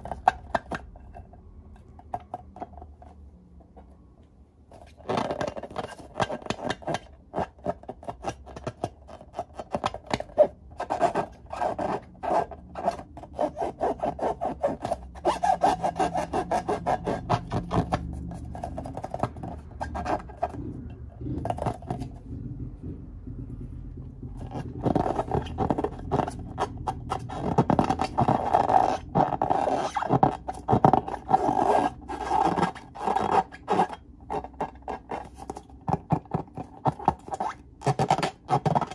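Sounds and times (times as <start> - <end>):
squeaky balloon rubbing: 4.7 - 23.6, 24.2 - 38.9.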